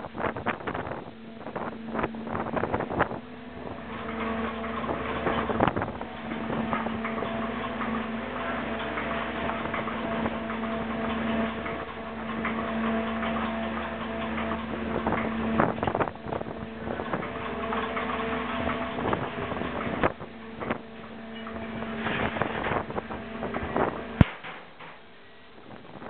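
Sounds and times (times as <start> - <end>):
boat machinery humming: 0.0 - 26.0
knocks and clatter: 0.1 - 25.1.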